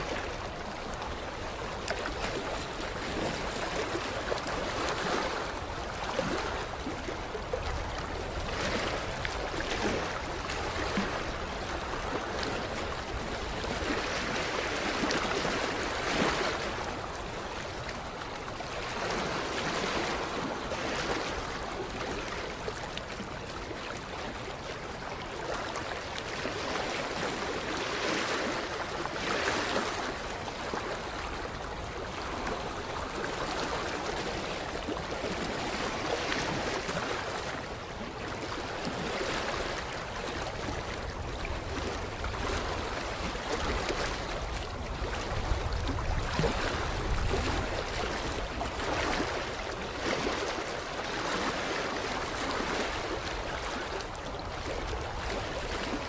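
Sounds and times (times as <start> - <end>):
water lapping against shoreline: 0.0 - 56.0.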